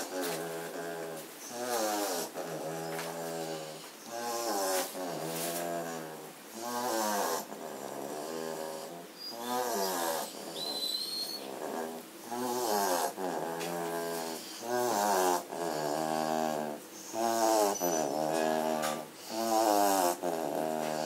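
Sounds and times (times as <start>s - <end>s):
puppy snoring: 0.0s - 21.0s.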